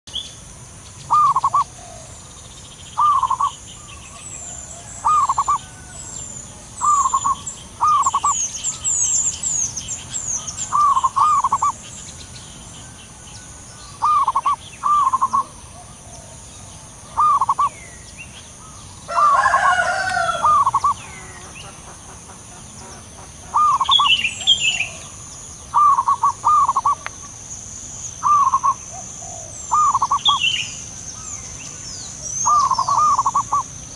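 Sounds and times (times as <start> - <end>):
small birds twittering: 0.1 - 33.9
doves cooing: 1.0 - 2.2, 3.0 - 9.6, 10.2 - 11.8, 12.9 - 17.8, 18.6 - 27.4, 28.2 - 30.8, 32.1 - 33.8.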